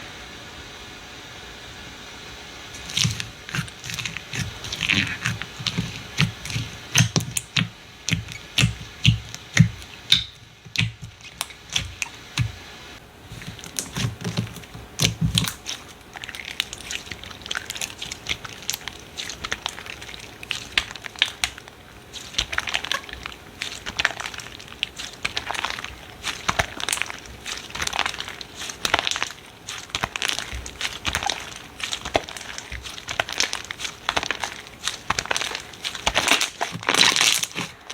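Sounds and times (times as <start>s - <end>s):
soft squelching thumps: 2.7s - 37.9s
slime crackling and popping: 2.8s - 12.7s, 13.3s - 37.9s.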